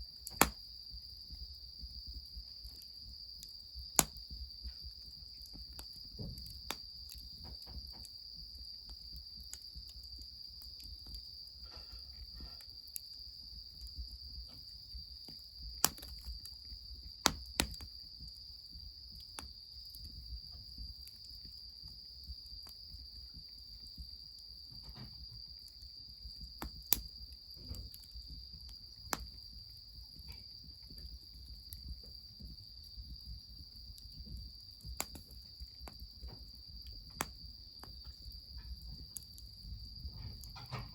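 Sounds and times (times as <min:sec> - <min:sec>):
cricket trilling: 0:00.0 - 0:40.9
wood fire crackling and popping: 0:00.0 - 0:40.9.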